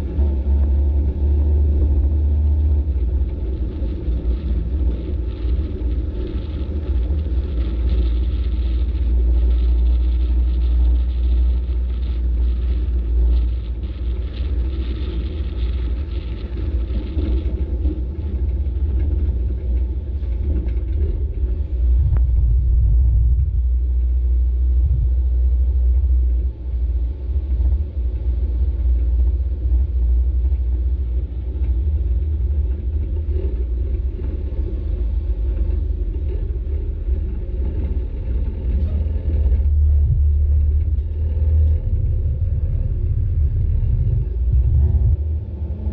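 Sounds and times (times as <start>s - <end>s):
truck engine and road rumble: 0.0s - 45.9s.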